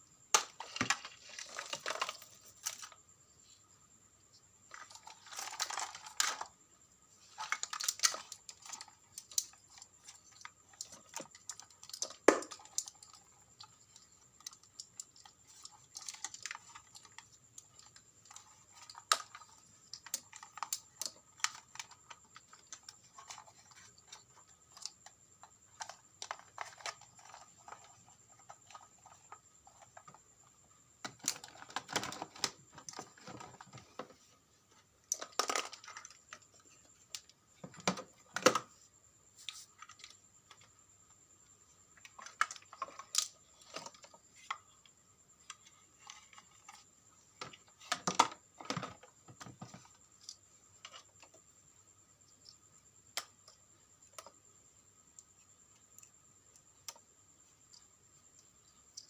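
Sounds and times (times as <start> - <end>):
small parts clicking and tapping: 7.2 - 34.1, 34.7 - 38.7, 39.4 - 51.5, 52.2 - 59.0.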